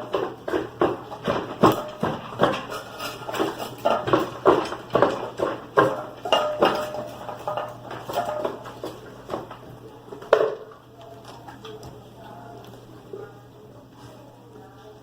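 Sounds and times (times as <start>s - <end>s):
dog food bowls clattering: 0.0s - 13.4s.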